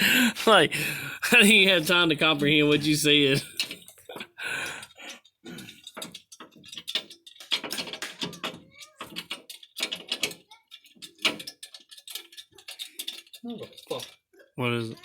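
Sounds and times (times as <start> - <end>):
hand tools clicking and clinking: 1.3 - 15.0.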